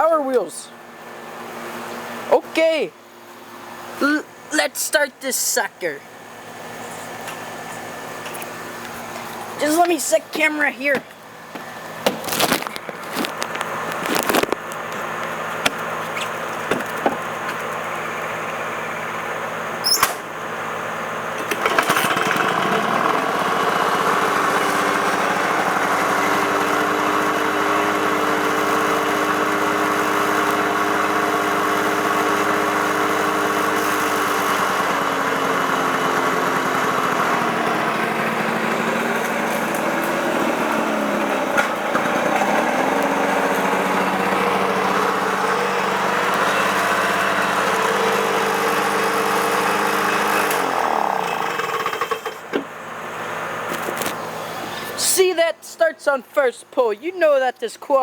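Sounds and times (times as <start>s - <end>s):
lawn mower engine running: 5.9s - 55.0s.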